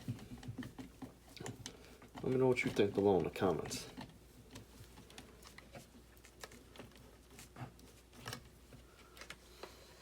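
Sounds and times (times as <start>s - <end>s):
plastic parts clicking and tapping: 0.0s - 9.8s.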